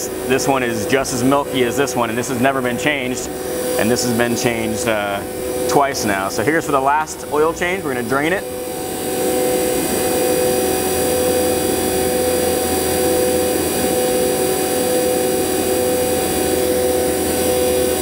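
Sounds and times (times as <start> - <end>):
vacuum pump whining: 0.0 - 18.0.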